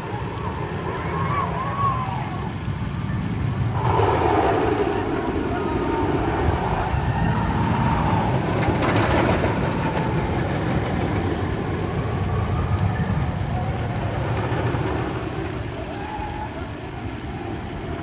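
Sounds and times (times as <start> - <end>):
roller coaster rumbling on track: 0.0 - 18.0.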